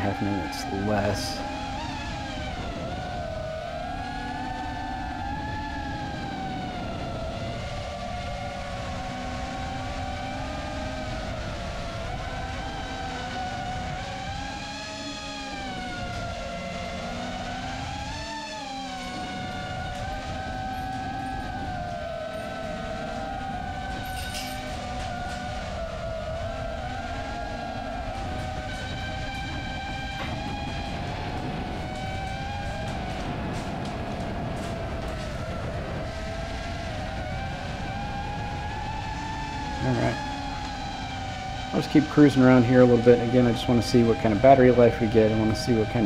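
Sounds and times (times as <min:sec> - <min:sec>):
drone motors whining: 0:00.0 - 0:46.0
low wind rumble: 0:00.0 - 0:46.0.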